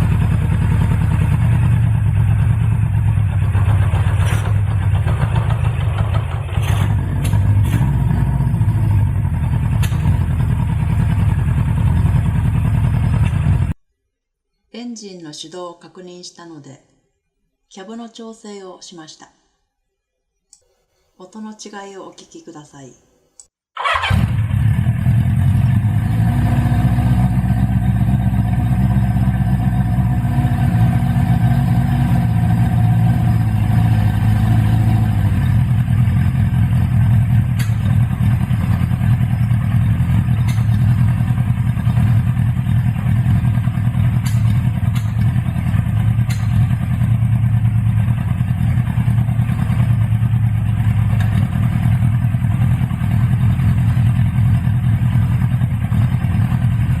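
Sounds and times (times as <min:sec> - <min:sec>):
motorcycle engine running: 0:00.0 - 0:13.8, 0:23.8 - 0:57.0.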